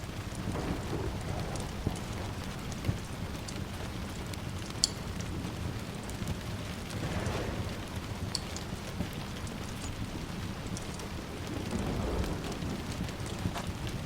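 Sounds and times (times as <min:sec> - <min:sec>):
distant thunder rumble: 0:00.0 - 0:14.0
steady rain: 0:00.0 - 0:14.0
wood fire crackling: 0:00.0 - 0:14.0.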